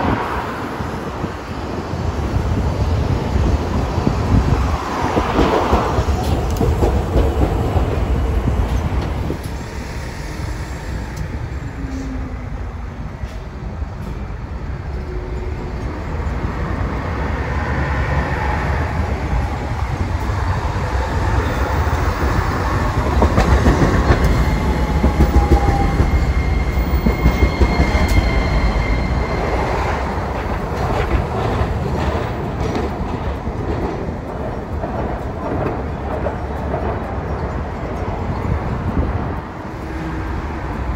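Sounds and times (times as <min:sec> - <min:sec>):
tram wheels rumbling on rails: 0:00.0 - 0:40.9.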